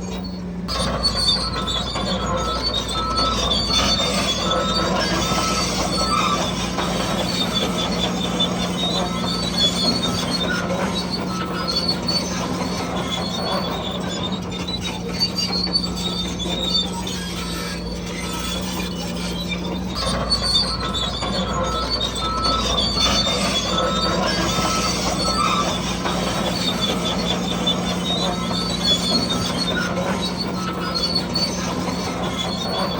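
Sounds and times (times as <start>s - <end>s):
electric motor and gearbox whine: 0.0s - 32.9s
metallic squeaking and clatter: 0.0s - 32.9s.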